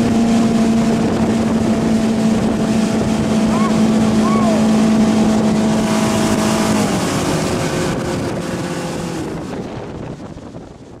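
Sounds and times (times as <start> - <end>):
water rushing: 0.0 - 10.9
boat engine hum: 0.0 - 11.0
wind: 0.0 - 11.0.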